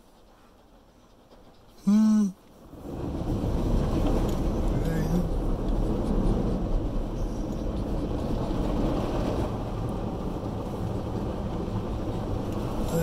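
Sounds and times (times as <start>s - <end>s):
car road noise: 0.0s - 13.0s.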